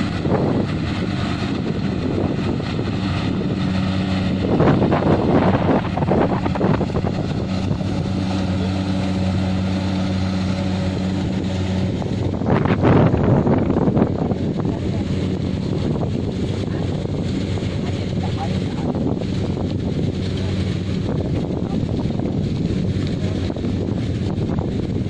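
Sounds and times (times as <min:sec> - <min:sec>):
diesel engine humming: 0:00.0 - 0:25.0
wind on microphone: 0:00.0 - 0:25.0.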